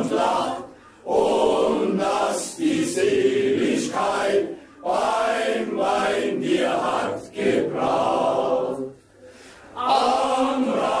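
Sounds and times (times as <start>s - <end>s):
male choir singing: 0.0s - 9.0s, 9.8s - 11.0s.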